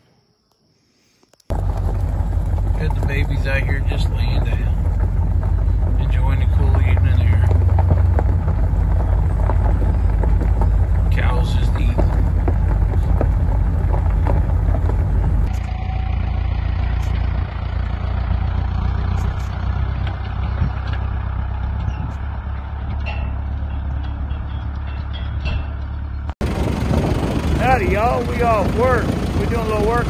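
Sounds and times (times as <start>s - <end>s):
low rumble inside vehicle cab: 1.5s - 30.0s
tractor running: 1.5s - 30.0s.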